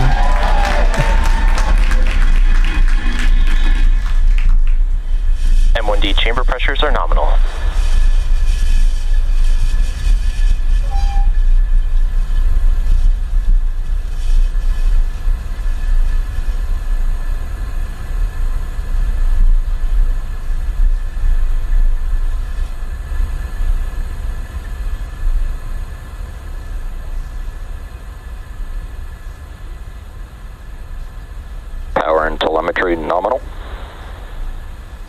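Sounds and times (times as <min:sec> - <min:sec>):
rocket engines deep rumble: 0:00.0 - 0:35.0.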